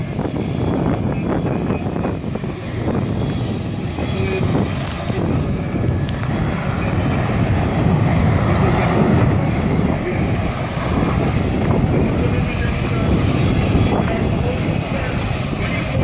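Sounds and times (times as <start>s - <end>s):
airplane engines rumbling: 0.0s - 16.0s.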